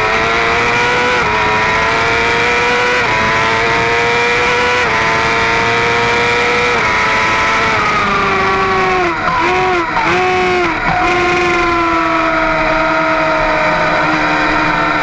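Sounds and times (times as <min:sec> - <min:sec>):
motorcycle engine at speed: 0:00.0 - 0:15.0.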